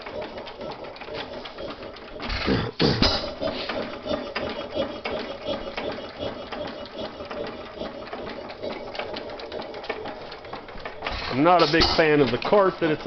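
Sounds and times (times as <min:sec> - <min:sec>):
engine rhythmic clatter: 0:00.0 - 0:13.0.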